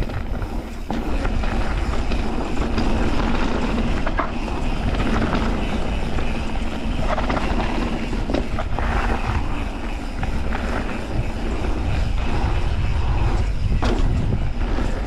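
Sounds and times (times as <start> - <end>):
bike rattling over bumps: 0.0 - 15.0
bike tyres on gravel: 0.0 - 15.0
wind rumble on microphone: 0.0 - 15.0.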